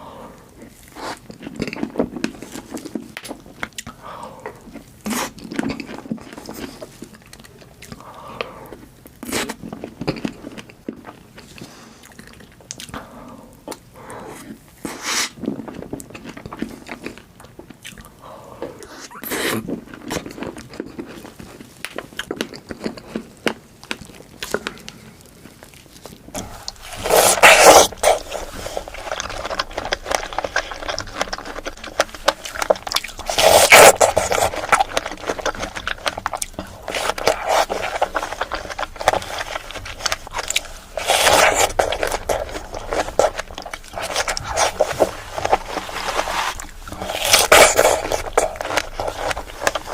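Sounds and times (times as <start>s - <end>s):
biting and chewing strawberries: 0.5s - 13.0s, 13.7s - 49.9s.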